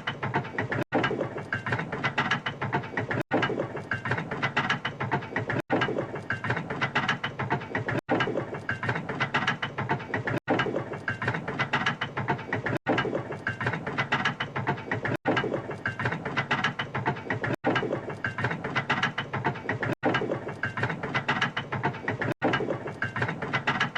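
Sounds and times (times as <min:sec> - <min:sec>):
gears clicking and ratcheting: 0:00.0 - 0:23.9.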